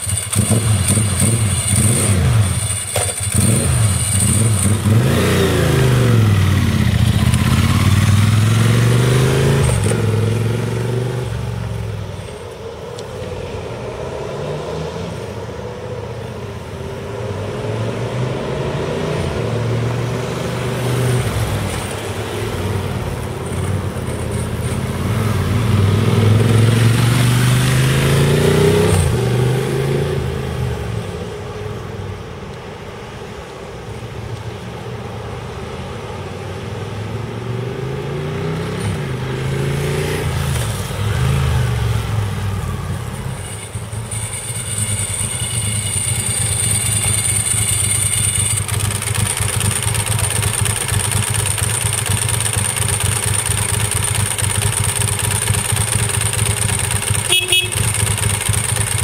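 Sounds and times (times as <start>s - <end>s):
motorcycle engine revving: 0.0s - 15.8s, 17.1s - 31.4s, 37.0s - 59.0s.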